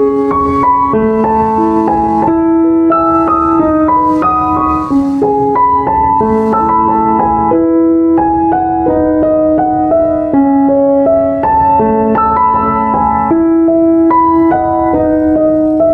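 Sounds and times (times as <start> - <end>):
keyboard melody: 0.0 - 15.9.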